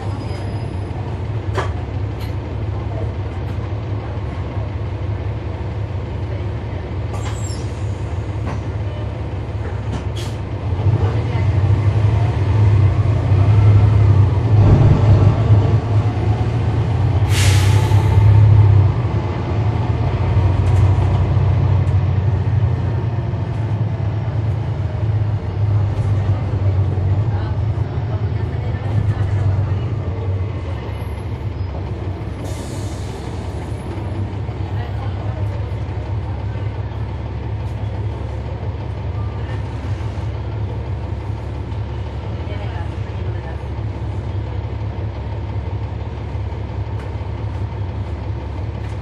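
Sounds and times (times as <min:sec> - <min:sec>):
bus diesel engine running: 0:00.0 - 0:49.0.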